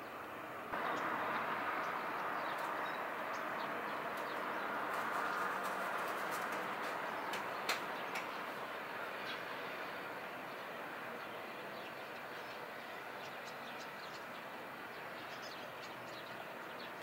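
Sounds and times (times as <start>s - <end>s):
steady outdoor noise: 0.0s - 17.0s.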